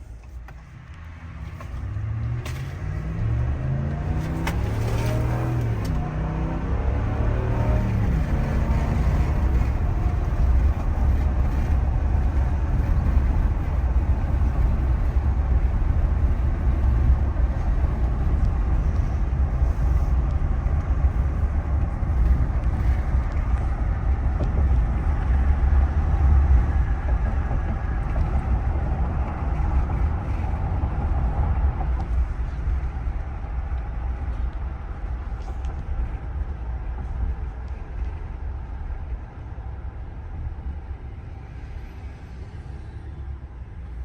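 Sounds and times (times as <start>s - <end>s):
road noise rumble: 0.0s - 44.0s.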